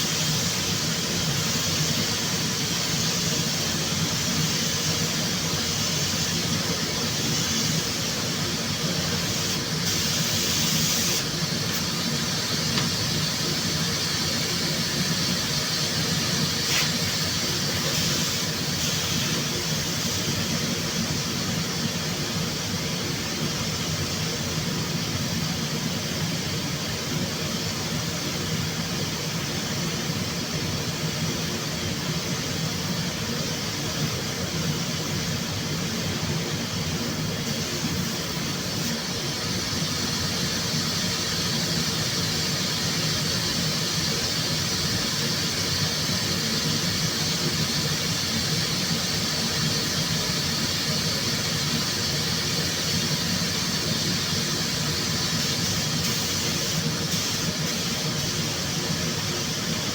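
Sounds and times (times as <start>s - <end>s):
machinery hiss: 0.0s - 59.9s.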